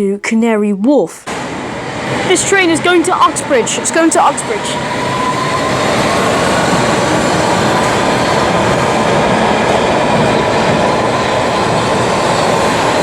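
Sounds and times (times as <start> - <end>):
underground train rumble: 1.2 - 13.0.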